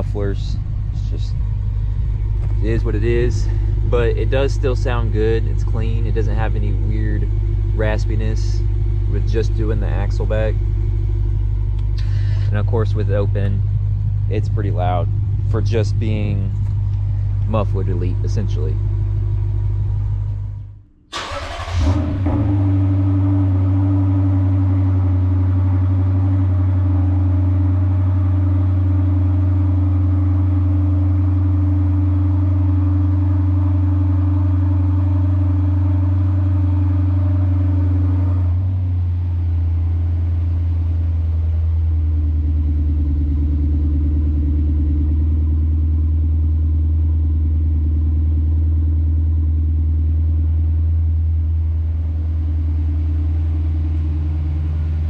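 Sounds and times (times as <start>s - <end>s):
car engine idling rumble: 0.0s - 55.0s.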